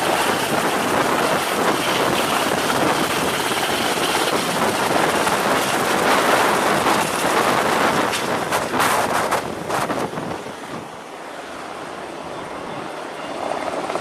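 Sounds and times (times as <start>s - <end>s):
wind rushing across microphone: 0.0s - 11.6s.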